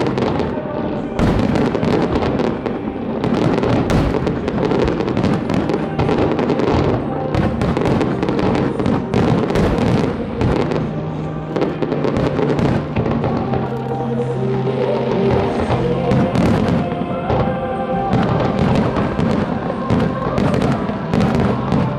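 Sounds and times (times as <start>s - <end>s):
fireworks bangs and crackles: 0.0s - 21.9s
music playing: 0.0s - 21.9s.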